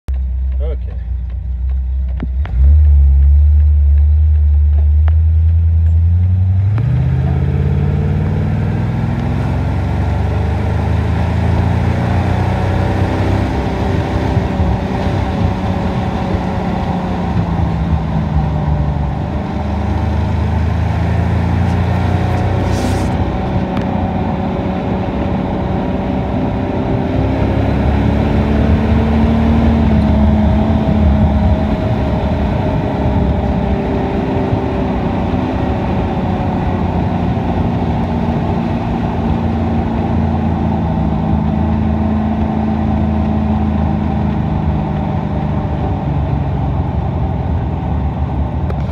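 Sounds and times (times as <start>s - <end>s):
old car engine accelerating: 0.1s - 48.9s
wind and road noise: 0.1s - 48.9s.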